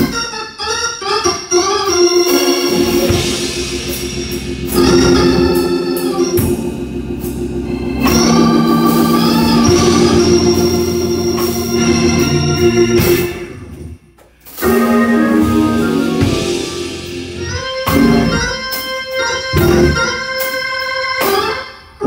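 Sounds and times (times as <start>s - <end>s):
organ playing sustained hymn chords: 0.0s - 14.0s, 14.6s - 21.8s.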